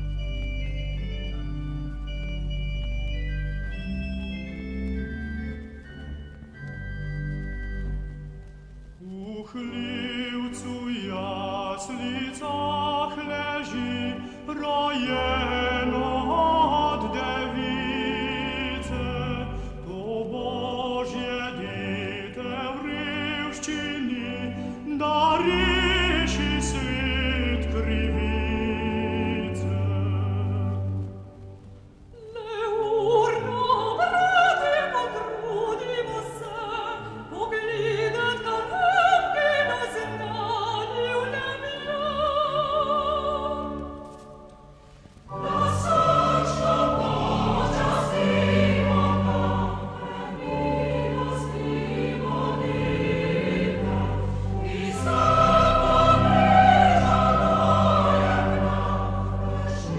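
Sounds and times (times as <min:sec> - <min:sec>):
orchestral accompaniment: 0:00.0 - 0:59.9
tenor singing with vibrato: 0:08.8 - 0:31.2, 0:32.2 - 0:59.9
choir singing: 0:09.3 - 0:31.2, 0:32.2 - 0:59.9.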